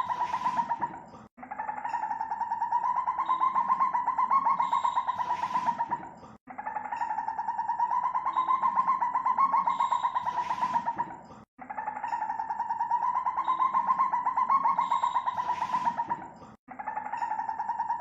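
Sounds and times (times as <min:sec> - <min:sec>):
civet calling: 0:00.0 - 0:18.0.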